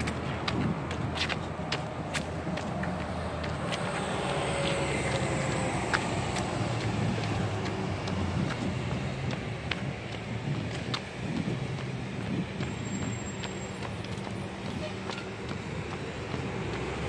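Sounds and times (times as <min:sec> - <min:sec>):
footsteps on concrete: 0:00.0 - 0:17.0
road traffic hum: 0:00.0 - 0:17.0.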